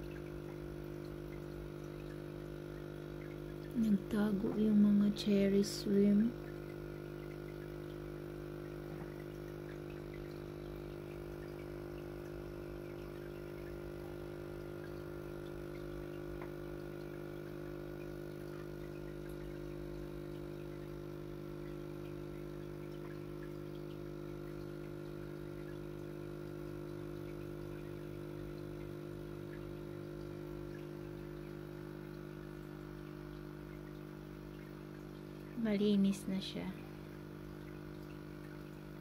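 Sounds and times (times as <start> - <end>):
aquarium filter pump humming: 0.0 - 39.0.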